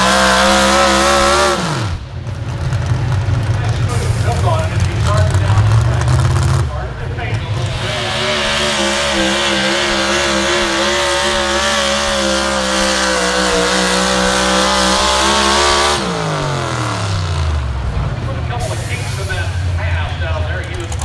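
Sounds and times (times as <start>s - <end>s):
engine running hard under load: 0.0s - 21.0s.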